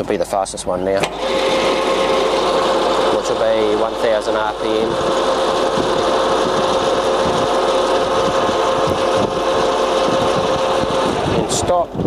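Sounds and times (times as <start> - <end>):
lathe mechanical hum: 1.0 - 12.0.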